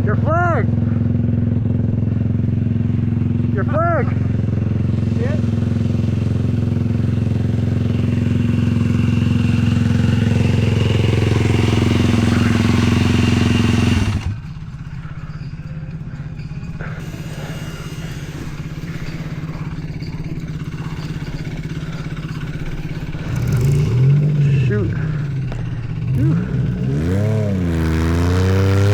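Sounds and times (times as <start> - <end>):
quad bike engine running: 0.0 - 28.9.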